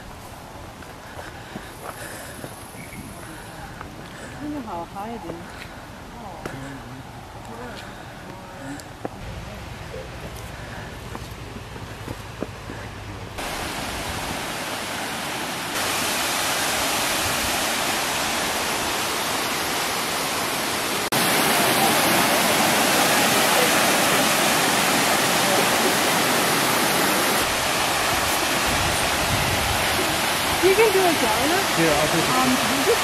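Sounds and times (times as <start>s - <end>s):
waterfall and stream rushing: 0.0s - 8.5s, 9.1s - 33.0s.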